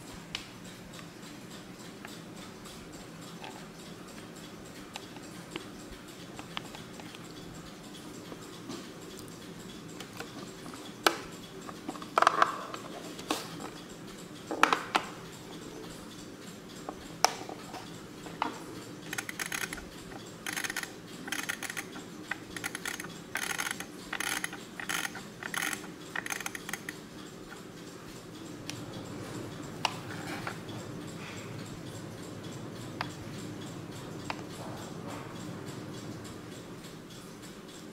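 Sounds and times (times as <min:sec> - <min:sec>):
clock flaps clicking: 0:00.0 - 0:37.9.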